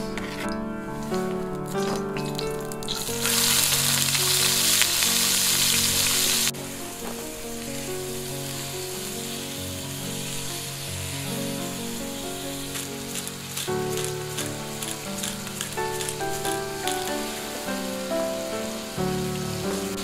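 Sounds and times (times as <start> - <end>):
background music: 0.0 - 20.0
food sizzling in a skillet: 1.8 - 20.0.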